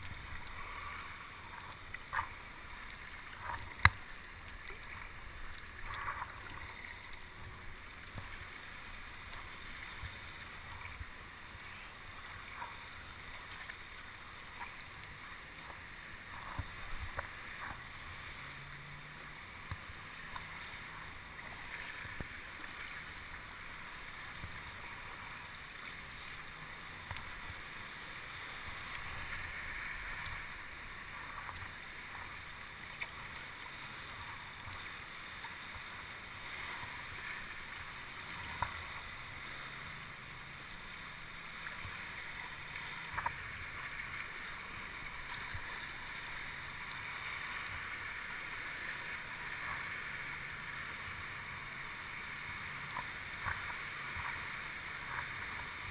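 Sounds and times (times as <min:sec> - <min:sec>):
water splashing around kayak: 0:00.0 - 0:55.9.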